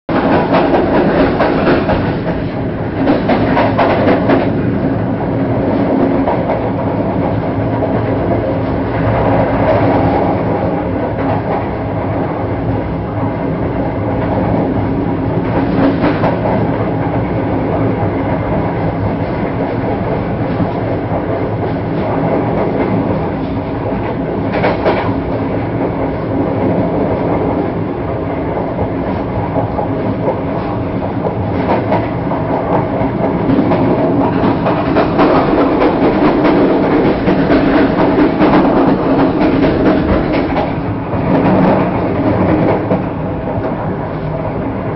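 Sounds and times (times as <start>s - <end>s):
loud train clatters: 0.1s - 44.9s
train wheels rumbling and rattling: 0.1s - 44.9s.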